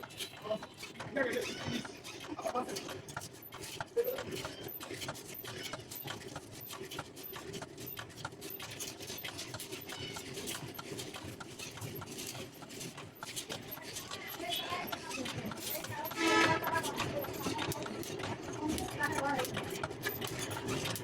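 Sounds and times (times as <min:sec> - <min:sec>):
light rhythmic taps: 0:00.0 - 0:21.0.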